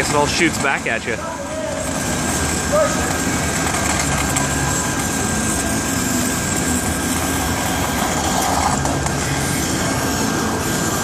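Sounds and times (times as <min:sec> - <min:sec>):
oxygen lance burning steel: 0:00.0 - 0:11.0.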